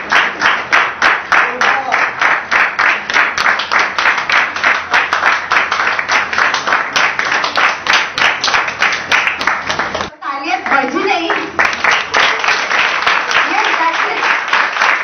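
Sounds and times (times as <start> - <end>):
crowd clapping in rhythm: 0.0 - 15.0.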